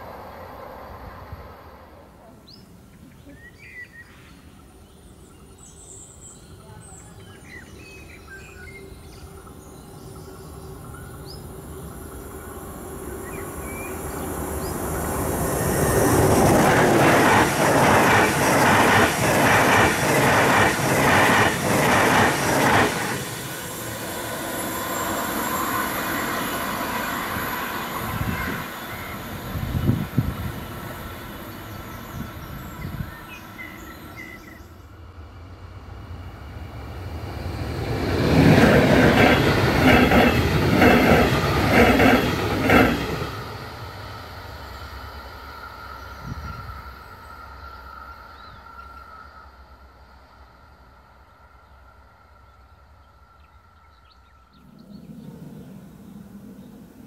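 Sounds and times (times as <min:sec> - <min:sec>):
high-speed train passing: 0:00.0 - 0:57.0.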